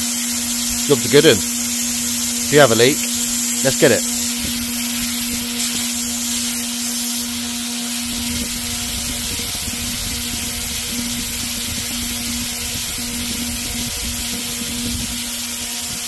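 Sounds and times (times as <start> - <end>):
pool pump humming: 0.0 - 16.0
rushing water and air hiss: 0.0 - 16.0.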